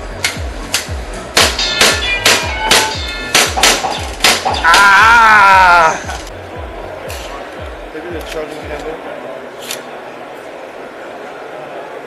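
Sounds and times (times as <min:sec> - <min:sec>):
hum of a busy hall: 0:00.0 - 0:12.0.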